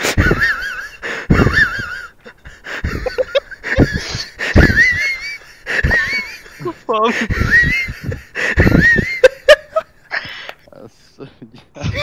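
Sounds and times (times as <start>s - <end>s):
person laughing with squeaky wheeze: 0.0s - 10.4s, 11.8s - 12.0s.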